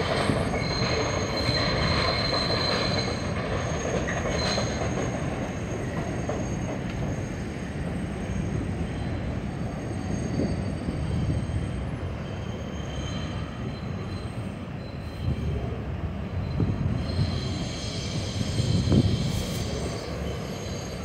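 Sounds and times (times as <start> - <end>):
high wheel squeal: 0.0 - 21.0
train wheels rumbling on rail: 0.0 - 21.0.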